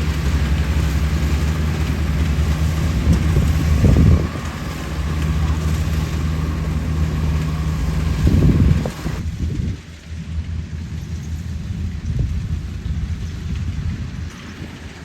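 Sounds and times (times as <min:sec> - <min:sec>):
combine harvester engine drone: 0:00.0 - 0:15.0
low rumble: 0:00.0 - 0:15.0.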